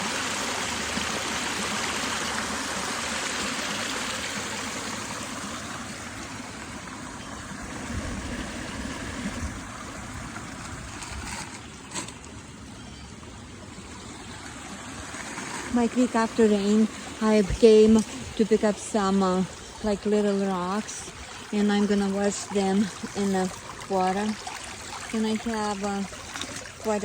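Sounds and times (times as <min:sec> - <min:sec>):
stream water over rocks: 0:00.0 - 0:27.0.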